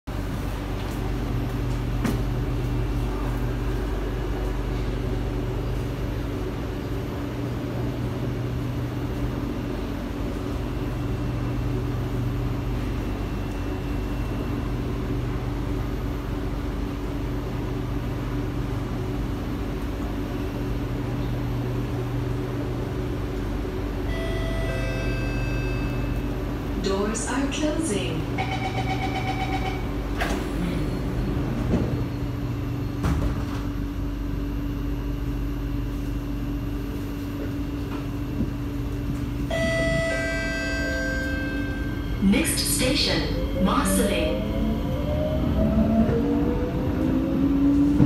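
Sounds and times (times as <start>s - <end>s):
train car humming: 0.1s - 48.0s.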